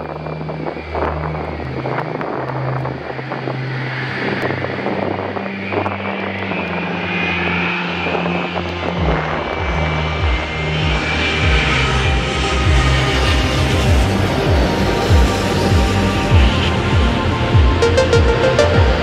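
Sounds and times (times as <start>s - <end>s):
high whine: 0.0s - 19.0s
jet engine noise: 0.0s - 19.0s.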